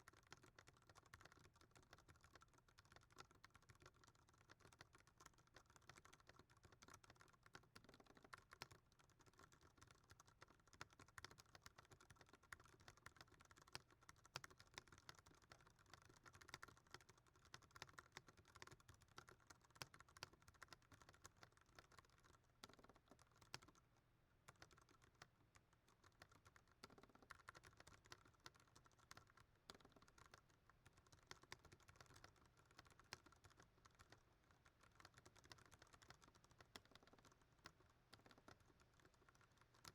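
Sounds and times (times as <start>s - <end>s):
fast typing on mechanical keyboard: 0.0s - 23.8s, 24.4s - 39.9s.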